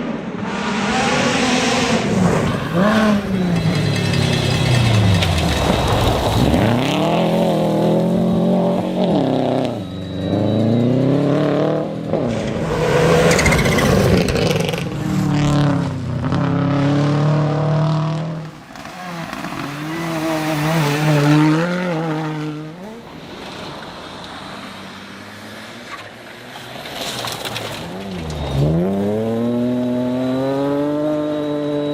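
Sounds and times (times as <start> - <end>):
rally car engine revving: 0.0 - 23.6, 26.8 - 31.9.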